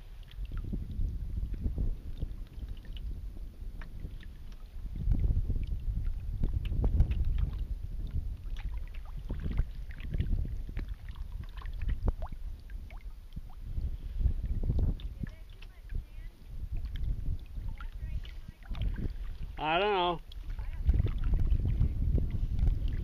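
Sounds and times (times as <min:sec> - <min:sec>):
water dripping off paddle: 0:00.0 - 0:03.1, 0:03.8 - 0:13.6, 0:14.6 - 0:16.0, 0:16.6 - 0:23.0
kayak paddle strokes in water: 0:00.0 - 0:23.0
wind on microphone: 0:00.0 - 0:23.0.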